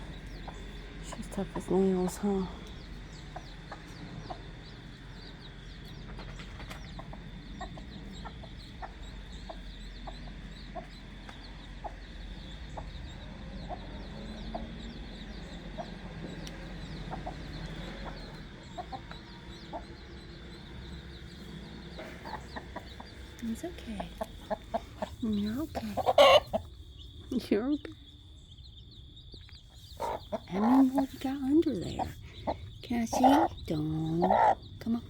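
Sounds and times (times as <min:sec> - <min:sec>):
chicks peeping: 0:00.0 - 0:35.0
hen clucking softly: 0:00.1 - 0:26.8, 0:29.6 - 0:34.9.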